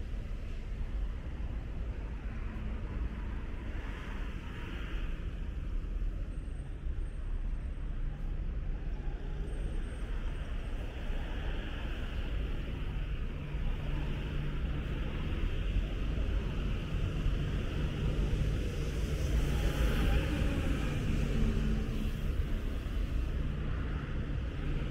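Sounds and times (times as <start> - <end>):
passing cars with tyre hiss: 0.0 - 24.9.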